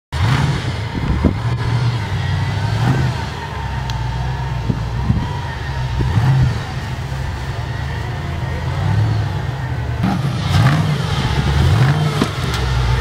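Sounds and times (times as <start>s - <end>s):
vehicle engine revving: 0.1s - 13.0s.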